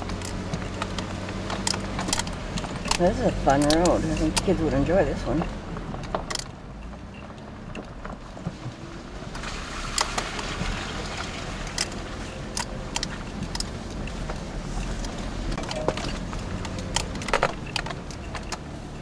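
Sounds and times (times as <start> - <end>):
cab knocks and rattles: 0.0 - 19.0
engine running at low speed: 0.0 - 19.0.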